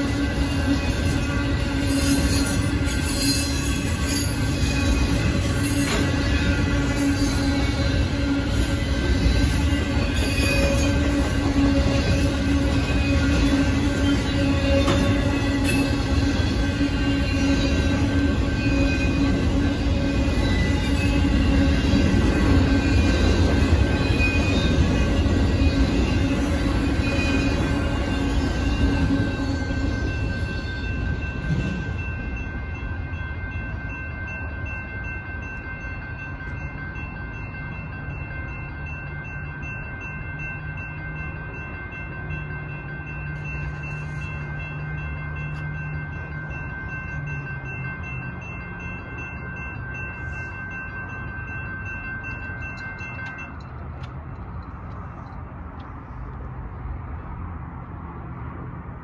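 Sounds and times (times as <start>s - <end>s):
freight train rumble: 0.0s - 59.0s
railroad crossing bells ringing: 0.0s - 59.0s.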